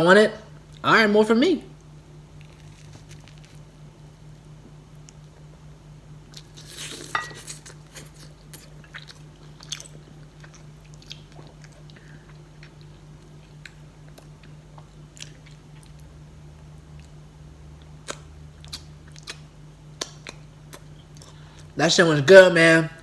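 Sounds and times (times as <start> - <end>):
steady low hum: 0.0 - 23.0
person chewing a sandwich: 2.2 - 5.5, 6.3 - 21.8.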